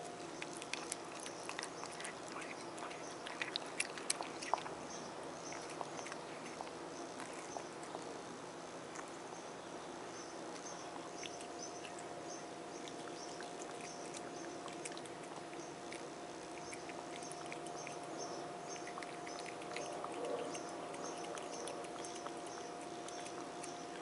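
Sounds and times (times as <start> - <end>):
cat chewing wet food: 0.0 - 8.3, 10.4 - 24.0
faint steady hum: 0.0 - 24.0.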